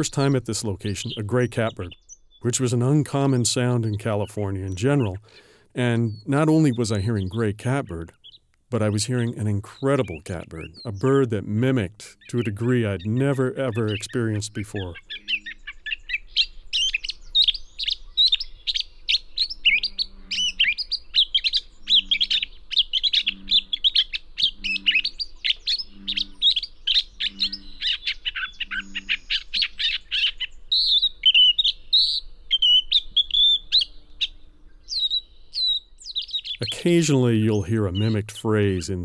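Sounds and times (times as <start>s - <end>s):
catbird singing: 0.0s - 39.0s.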